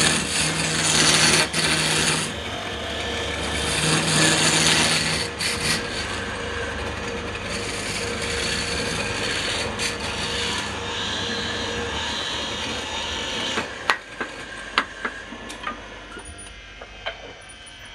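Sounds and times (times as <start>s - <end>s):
wood scraping on lathe: 0.0s - 16.0s
faint motor hum: 0.0s - 17.9s.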